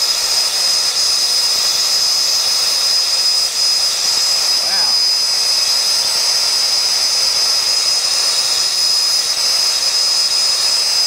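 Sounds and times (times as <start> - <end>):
gas torch hissing and whistling: 0.0 - 11.0.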